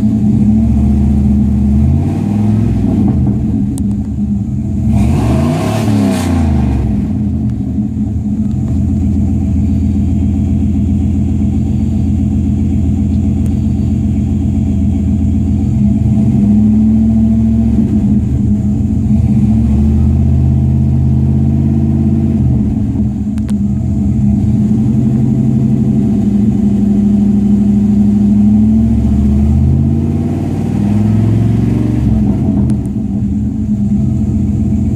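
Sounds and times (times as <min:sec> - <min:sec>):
vee eight engine revving: 0:00.0 - 0:34.9.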